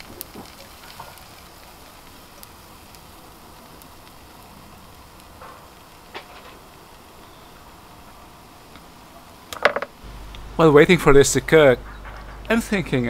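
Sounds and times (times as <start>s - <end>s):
batter sizzling in a pan: 0.0s - 10.6s.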